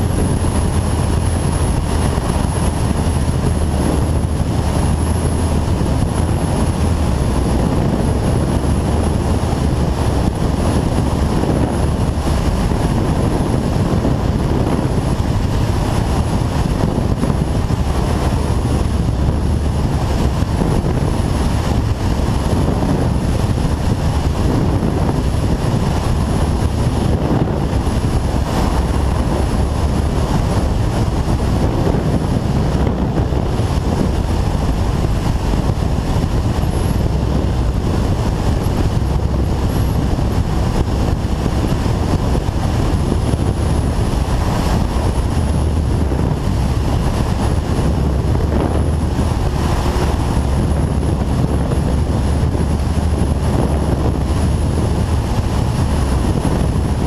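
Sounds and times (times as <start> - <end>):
motorcycle road noise: 0.0 - 57.0
wind buffeting microphone: 0.0 - 57.0.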